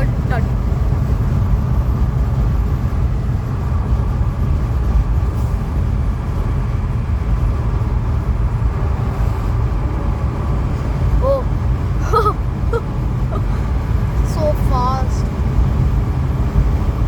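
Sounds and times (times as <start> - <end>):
car engine running: 0.0 - 17.0
road and tyre rumble: 0.0 - 17.0.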